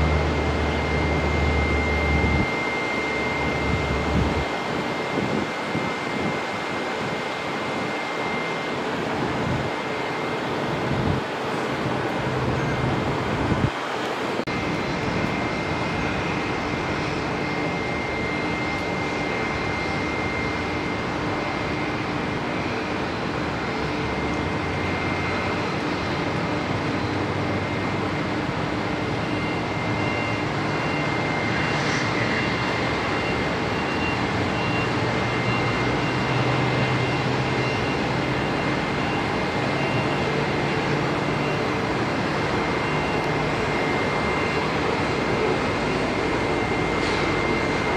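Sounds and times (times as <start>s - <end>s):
turboprop engines running: 0.0s - 47.9s.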